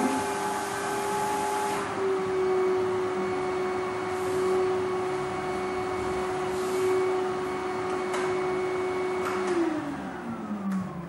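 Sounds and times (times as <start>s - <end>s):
vacuum cleaner motor humming: 0.0s - 11.0s.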